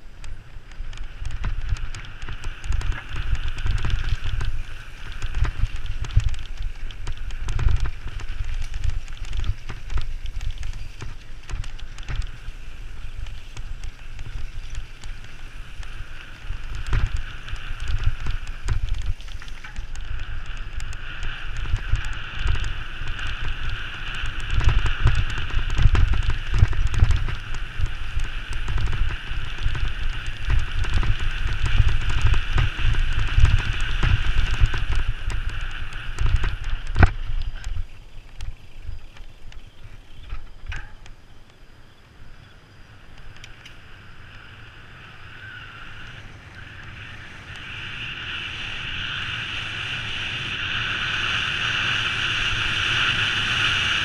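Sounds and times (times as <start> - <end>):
wheels rumbling over rough pavement: 0.0 - 54.0.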